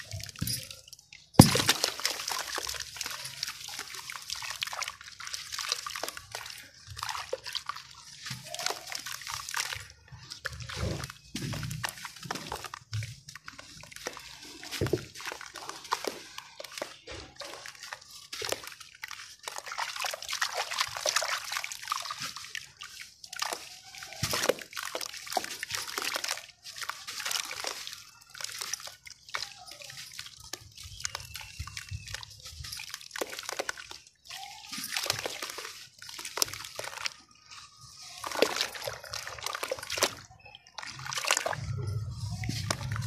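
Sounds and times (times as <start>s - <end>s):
water sloshing and dripping: 0.0s - 43.0s
wet sand and cement crunching: 0.0s - 43.0s.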